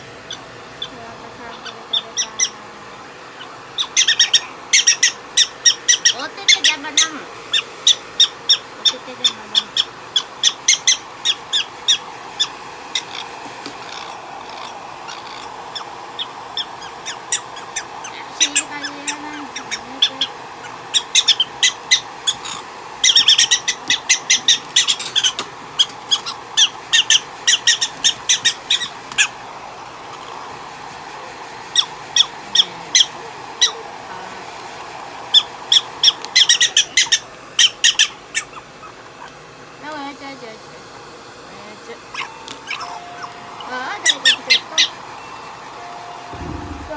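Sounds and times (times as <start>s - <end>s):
prairie dog squeaking chirps: 0.3s - 2.6s, 3.3s - 29.4s, 31.7s - 33.8s, 35.3s - 39.4s, 42.1s - 45.5s, 46.3s - 46.9s.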